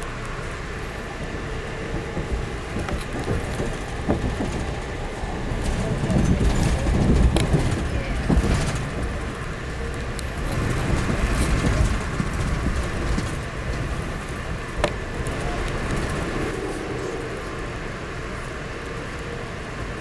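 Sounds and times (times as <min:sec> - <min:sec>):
train car rumble and rattle: 0:00.0 - 0:20.0.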